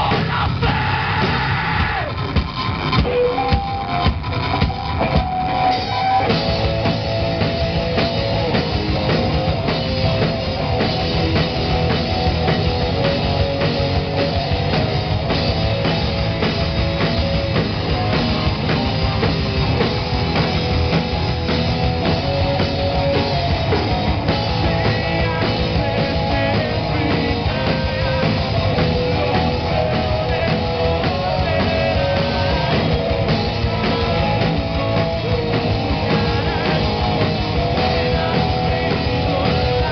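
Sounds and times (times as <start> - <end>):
punk rock band playing: 0.0 - 39.9.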